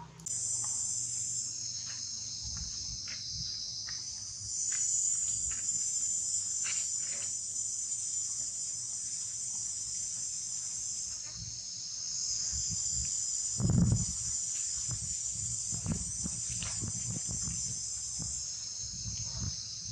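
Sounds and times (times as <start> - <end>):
high-pitched insect chorus: 0.0 - 19.9.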